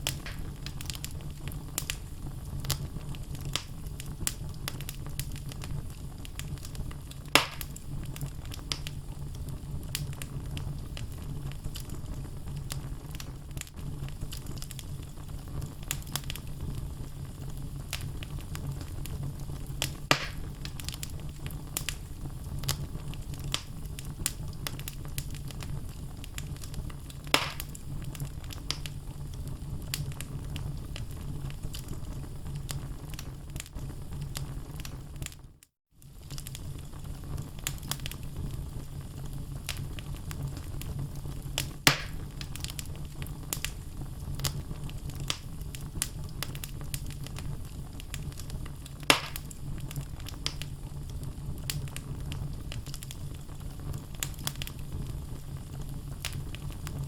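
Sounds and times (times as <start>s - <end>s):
loud fire pops: 0.0s - 57.0s
low rumble of flame: 0.0s - 57.0s
wood fire crackling: 0.0s - 57.0s.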